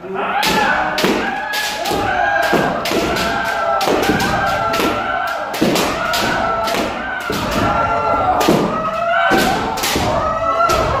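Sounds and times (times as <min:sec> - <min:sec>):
people shouting: 0:00.0 - 0:11.0.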